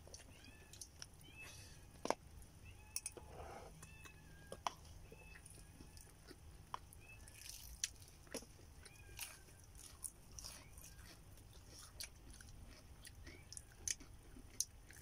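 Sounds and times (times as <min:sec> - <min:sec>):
person chewing food: 0:00.0 - 0:02.3, 0:02.9 - 0:15.0.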